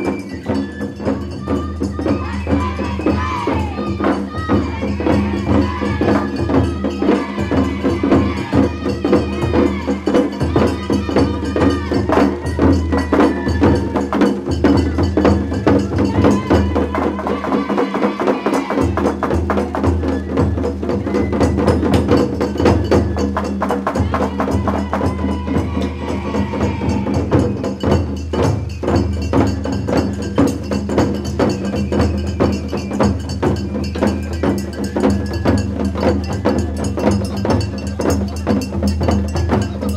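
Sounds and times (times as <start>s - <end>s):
bamboo flute melody: 0.0s - 39.9s
taiko drums: 0.0s - 39.9s.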